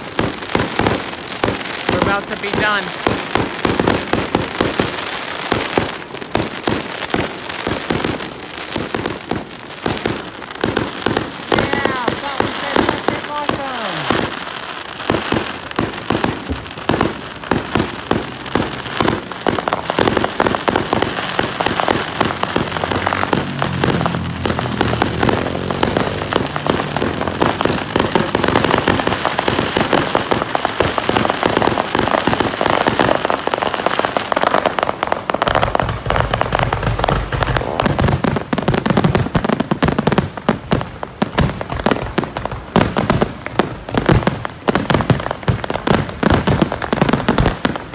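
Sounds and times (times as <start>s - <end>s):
deep firework booms: 0.0s - 47.9s
fireworks bangs and crackles: 0.0s - 47.9s.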